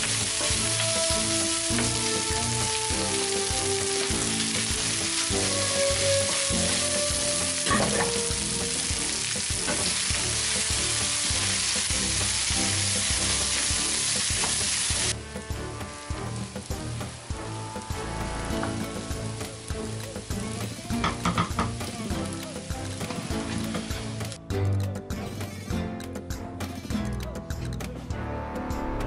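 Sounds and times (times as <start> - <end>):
food sizzling in frying pan: 0.0 - 24.4.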